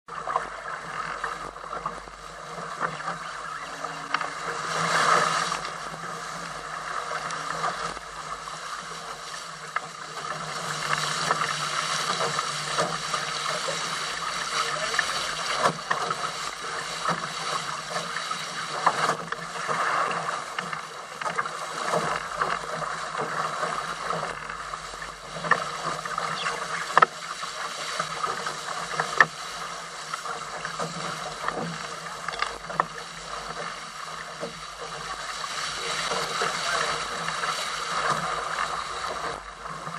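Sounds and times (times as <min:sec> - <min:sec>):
water rushing along hulls: 0:00.0 - 0:39.9
water slapping hulls: 0:00.1 - 0:39.9.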